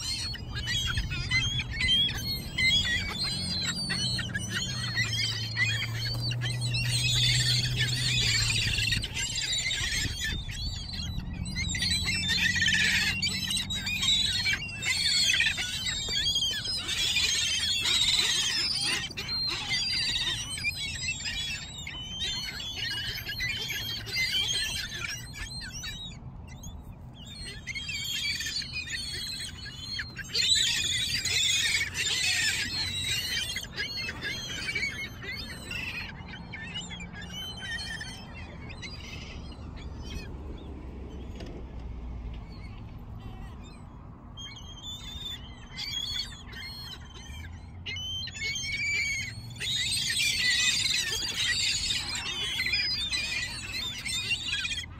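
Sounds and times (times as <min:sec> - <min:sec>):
gulls calling: 0:00.0 - 0:54.9.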